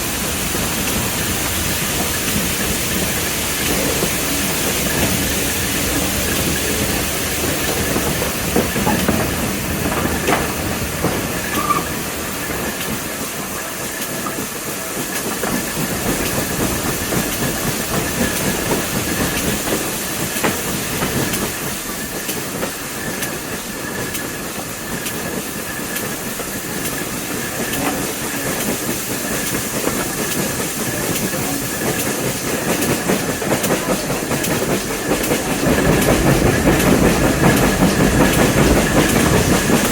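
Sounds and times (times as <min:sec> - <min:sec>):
train wheels rolling and clicking: 0:00.0 - 0:39.9.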